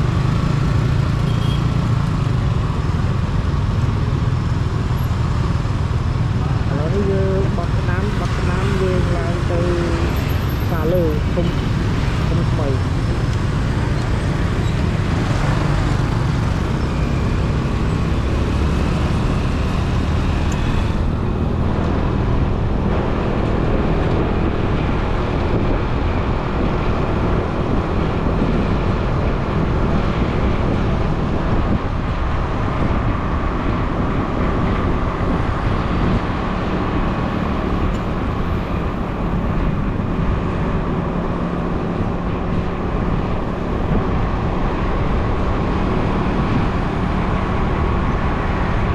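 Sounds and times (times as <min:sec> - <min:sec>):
road and traffic noise: 0:00.0 - 0:48.9.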